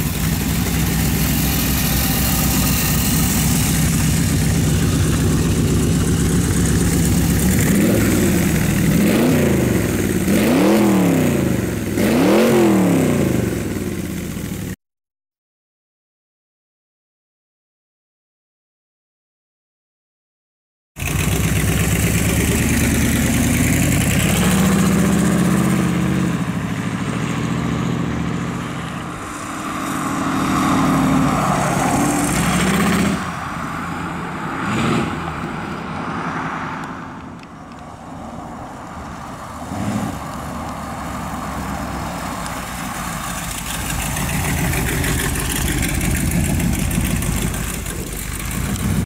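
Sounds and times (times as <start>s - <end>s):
car engine revving: 0.0s - 14.7s, 21.0s - 49.0s.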